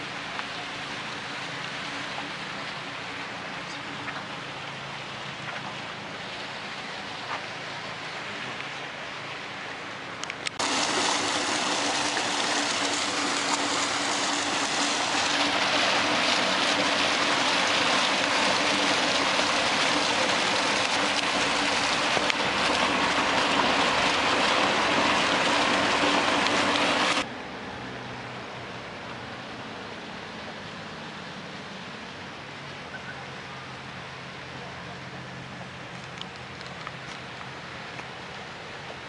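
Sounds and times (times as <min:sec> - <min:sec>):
fountain water splashing: 0:00.0 - 0:27.3, 0:28.6 - 0:39.0.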